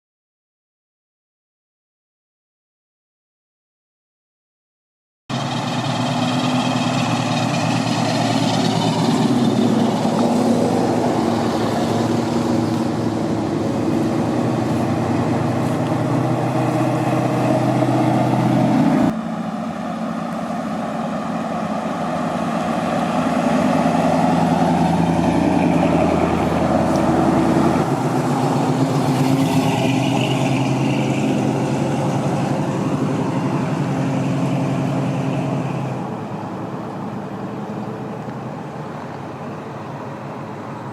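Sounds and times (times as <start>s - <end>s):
car engines running: 5.3s - 40.9s.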